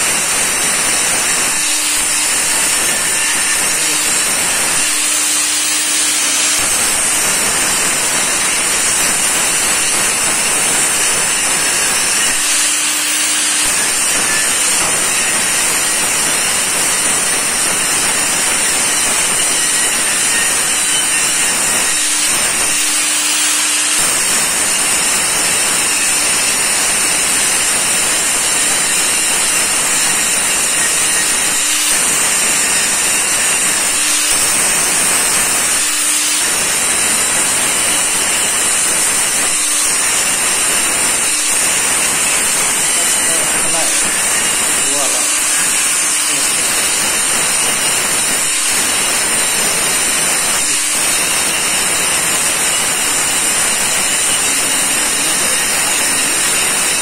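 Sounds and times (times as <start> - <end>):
angle grinder grinding steel: 0.0 - 57.0.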